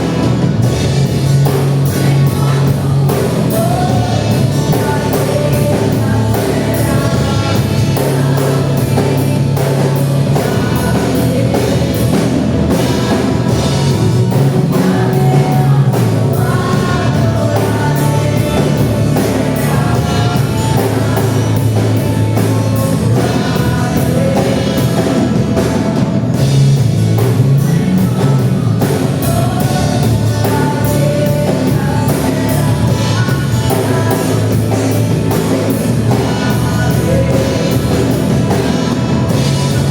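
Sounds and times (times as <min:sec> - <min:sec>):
drums: 0:00.0 - 0:39.9
gospel band playing: 0:00.0 - 0:39.9
guitar: 0:00.0 - 0:39.9
people singing: 0:00.0 - 0:39.9.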